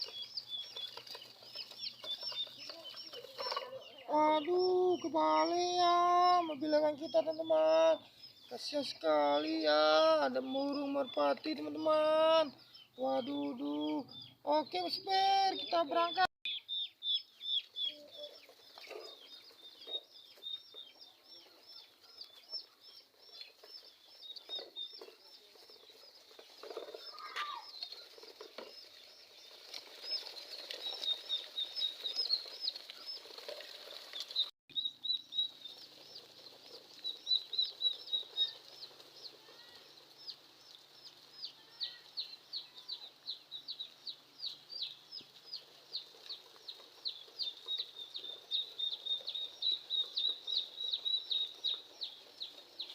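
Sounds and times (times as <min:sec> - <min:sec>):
chicks peeping: 0:00.0 - 0:52.9.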